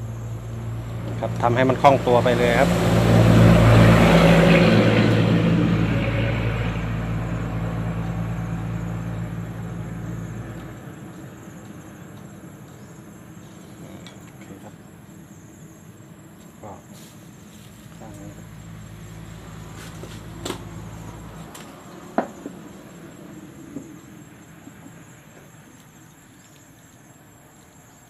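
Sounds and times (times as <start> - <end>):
engine hum: 0.0 - 27.7
faint insect chirping: 0.0 - 28.0.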